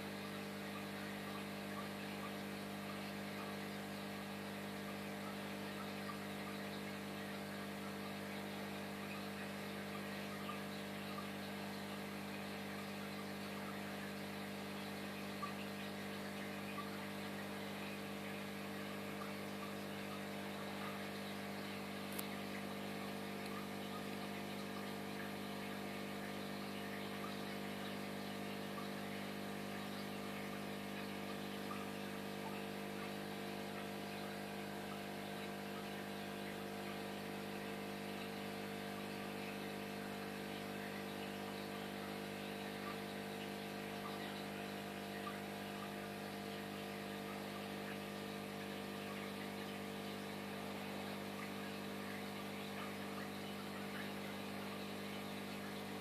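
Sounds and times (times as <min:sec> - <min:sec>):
aquarium equipment hum: 0:00.0 - 0:56.0
air bubbles fizzing: 0:00.2 - 0:56.0.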